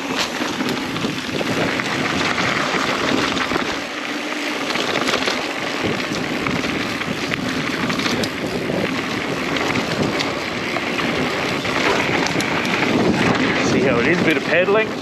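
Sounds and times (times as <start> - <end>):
bike clicks and rattles: 0.0 - 15.0
tyre noise on dirt: 0.0 - 15.0
wind rush on microphone: 0.0 - 15.0.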